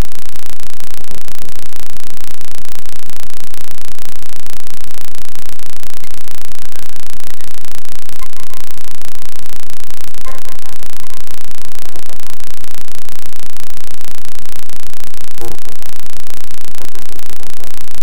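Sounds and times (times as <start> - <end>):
faint high tones: 0.0 - 18.0
loud static noise: 0.0 - 18.0.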